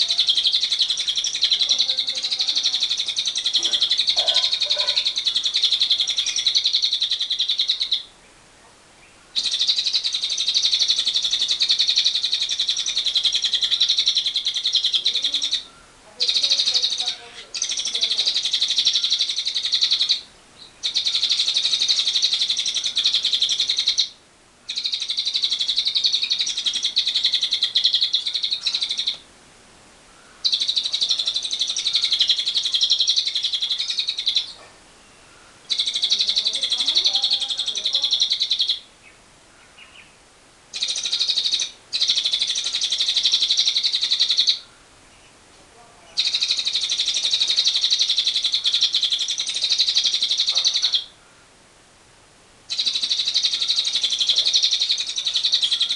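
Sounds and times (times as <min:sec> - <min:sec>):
lovebird trilling: 0:00.0 - 0:08.2, 0:09.0 - 0:29.3, 0:30.2 - 0:51.2, 0:52.7 - 0:55.9.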